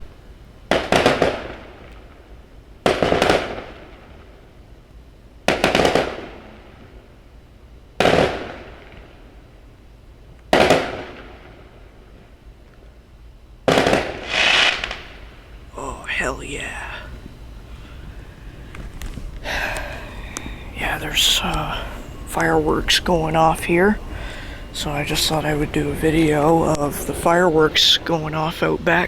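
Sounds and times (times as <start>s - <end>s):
fireworks bangs: 0.0s - 4.6s, 5.5s - 7.1s, 8.0s - 9.4s, 10.5s - 12.2s, 13.6s - 29.0s.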